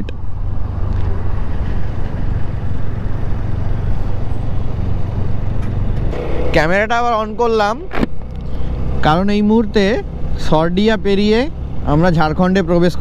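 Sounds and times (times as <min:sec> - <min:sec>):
road noise: 0:00.0 - 0:13.0
motorcycle engine: 0:00.4 - 0:13.0.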